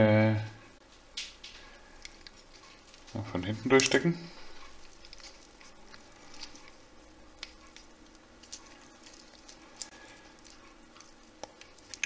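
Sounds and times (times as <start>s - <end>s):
plastic parts rustling: 1.4s - 12.0s.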